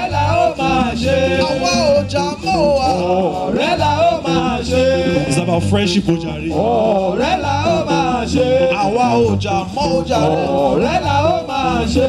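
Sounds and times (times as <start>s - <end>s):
live band playing: 0.0s - 12.0s
man singing: 0.0s - 12.0s
steady bass notes: 0.0s - 12.0s.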